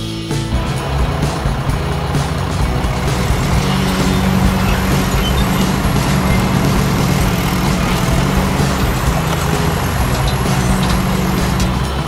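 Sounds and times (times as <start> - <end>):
mini excavator engine droning: 0.2 - 12.0.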